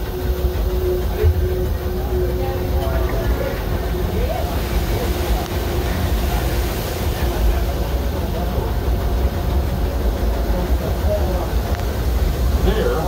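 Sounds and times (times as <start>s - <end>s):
train coach rumbling on track: 0.0s - 13.0s.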